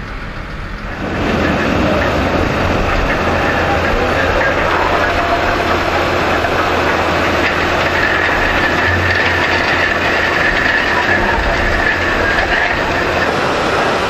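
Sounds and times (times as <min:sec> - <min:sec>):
diesel engine humming: 0:00.0 - 0:14.0
beets rattling over rollers: 0:00.9 - 0:14.0.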